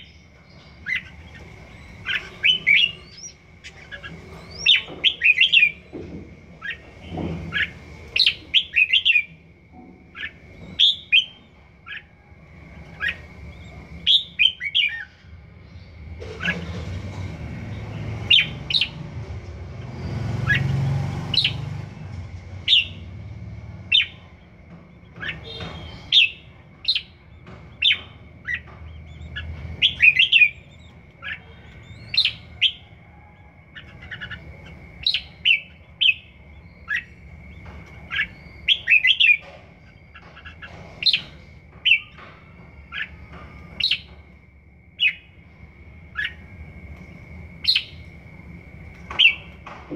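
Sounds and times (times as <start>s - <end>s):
bird singing bright phrases: 0.0s - 16.8s, 19.8s - 24.3s, 25.0s - 32.9s, 33.7s - 44.3s, 49.0s - 49.9s.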